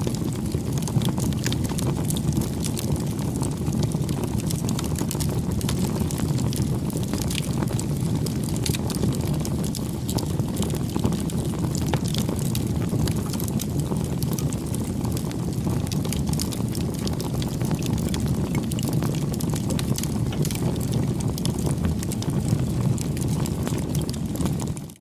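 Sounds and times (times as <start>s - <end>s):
bonfire flames burning: 0.0s - 25.0s
fire crackling and popping: 0.0s - 25.0s.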